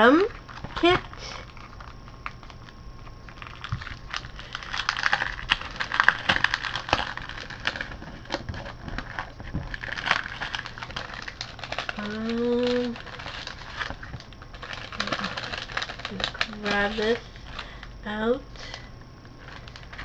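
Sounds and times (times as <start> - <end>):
crackles and clicks: 0.0 - 18.0, 18.6 - 20.0
plastic sleeve crinkling: 0.0 - 18.0, 18.6 - 20.0.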